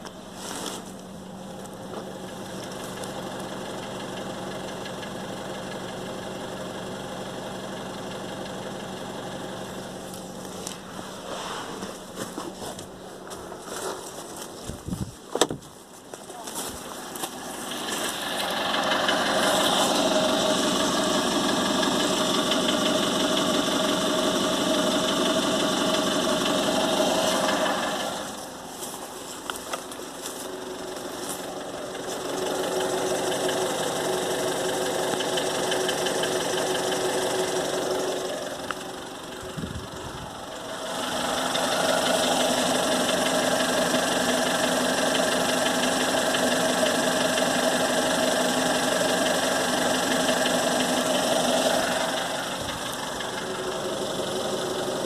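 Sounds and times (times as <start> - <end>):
car engine running: 0.0 - 55.0
knocking inside engine: 1.0 - 10.8, 17.0 - 28.6, 29.5 - 55.0.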